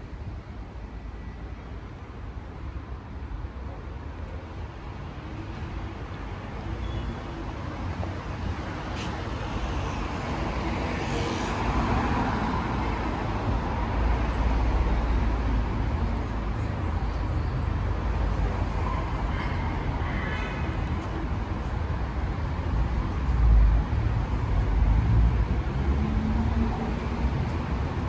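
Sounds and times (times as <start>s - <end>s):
steady traffic noise: 0.0s - 28.0s.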